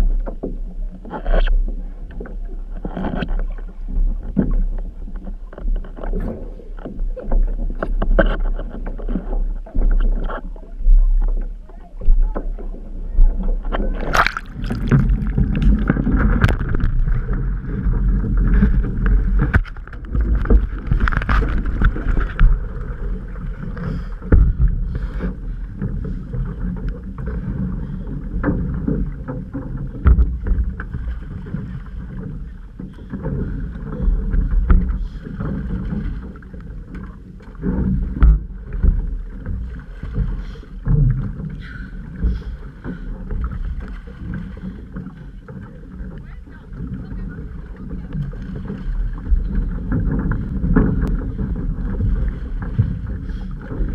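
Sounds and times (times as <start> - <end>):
steady low rumble: 0.0 - 53.9
water rushing along hull: 0.0 - 53.9.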